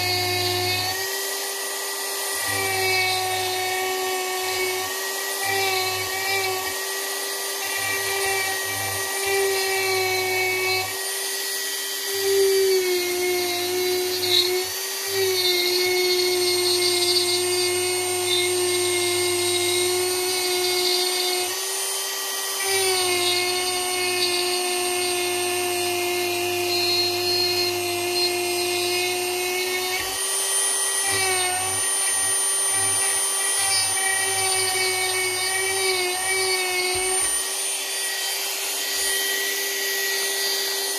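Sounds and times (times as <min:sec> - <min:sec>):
rotary tool whining carving wood: 0:00.0 - 0:40.9.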